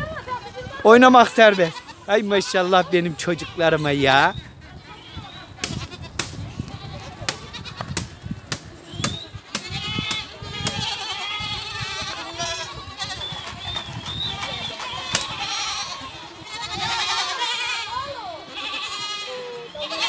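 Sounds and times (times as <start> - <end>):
goats bleating: 0.0 - 8.0, 9.2 - 20.0.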